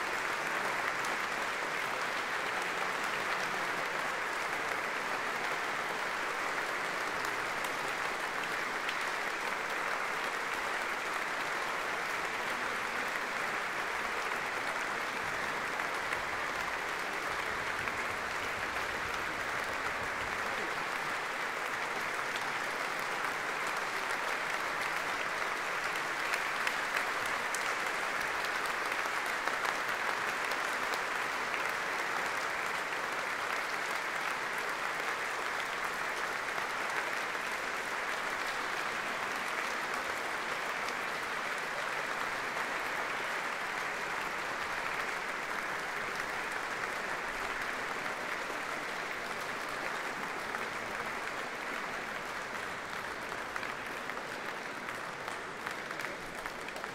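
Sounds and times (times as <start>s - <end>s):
audience applauding: 0.0s - 56.9s.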